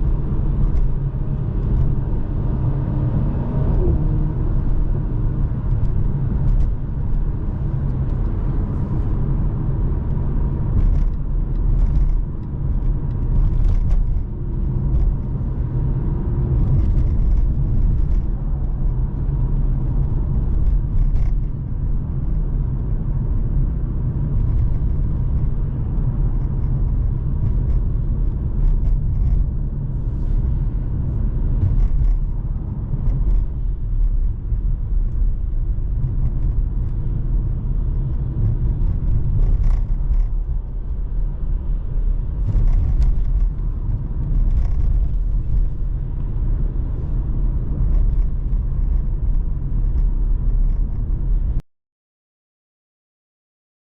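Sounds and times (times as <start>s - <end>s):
car engine and road noise: 0.0s - 51.6s.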